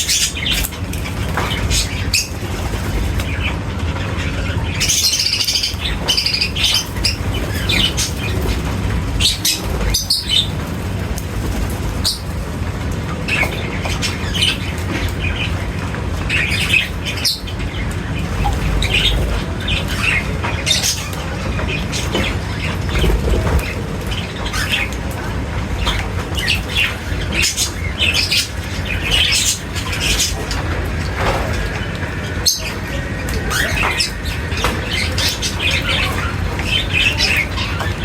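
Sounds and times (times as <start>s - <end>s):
birds chirping and squawking: 0.0s - 38.0s.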